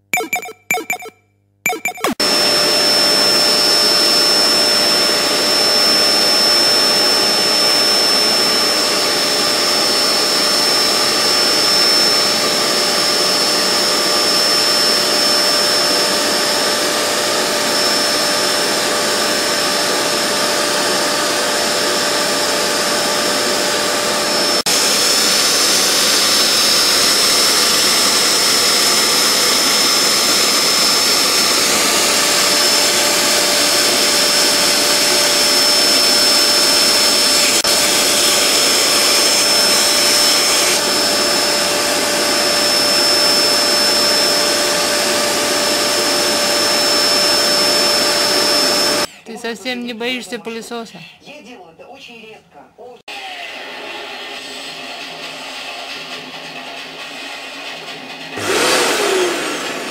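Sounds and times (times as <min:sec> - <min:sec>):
vacuum cleaner running: 0:02.0 - 0:49.1, 0:53.1 - 0:59.9.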